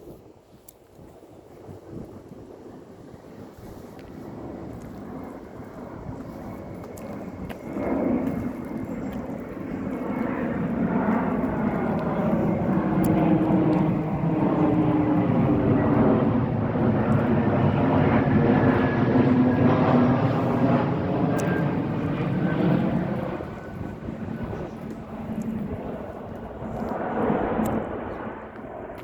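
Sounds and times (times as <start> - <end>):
jet airliner passing overhead: 0.0 - 29.0.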